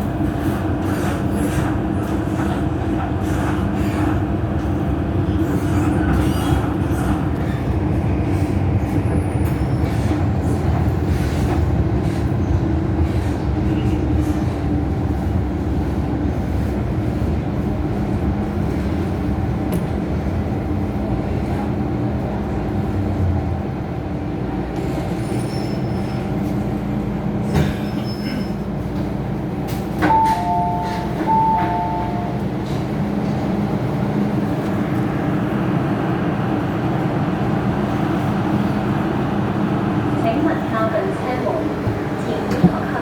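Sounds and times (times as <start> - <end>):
train rumbling on track: 0.0 - 43.0.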